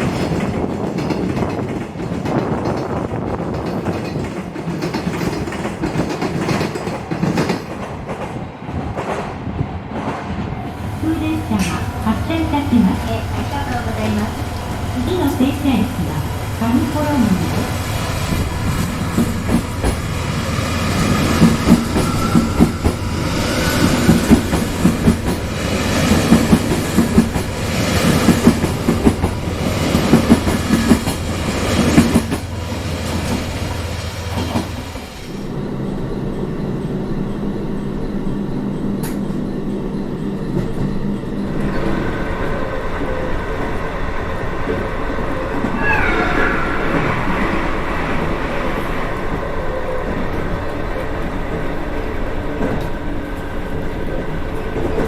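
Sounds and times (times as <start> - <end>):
train clattering on rails: 0.0 - 55.0.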